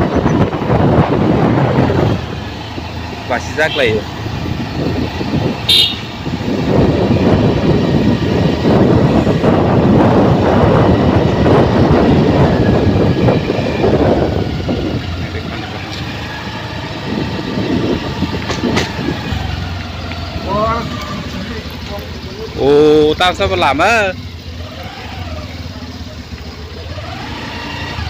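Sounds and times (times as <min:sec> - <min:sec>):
vehicle noise: 0:00.0 - 0:28.0.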